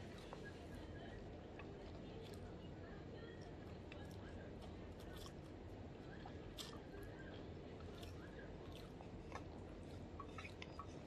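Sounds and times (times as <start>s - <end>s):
faint chewing of noodles: 0.0s - 11.0s.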